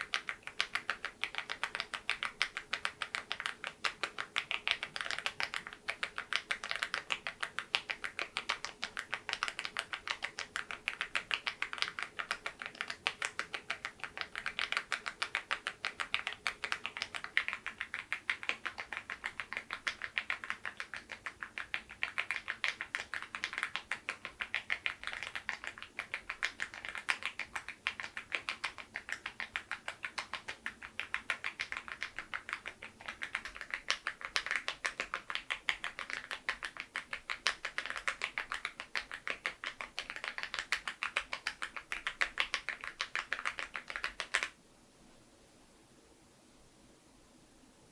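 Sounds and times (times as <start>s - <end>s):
mechanical keyboard typing: 0.0s - 44.6s.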